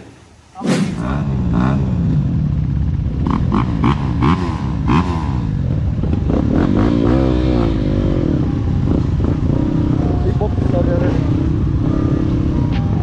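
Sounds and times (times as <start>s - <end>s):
other dirt bikes running: 0.8s - 13.0s
motorbike engine revving: 0.9s - 13.0s.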